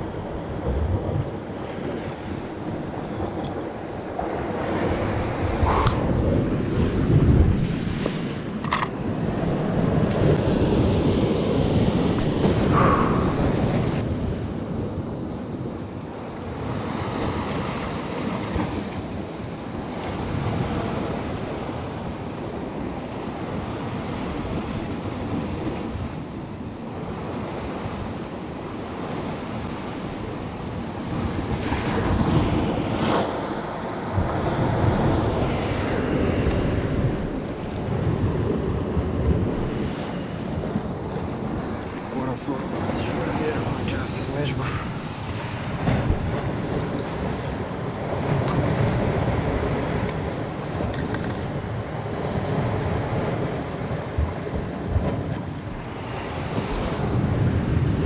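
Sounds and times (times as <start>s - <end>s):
surf washing against rocks: 0.0s - 58.0s
wind buffeting microphone: 0.0s - 58.0s.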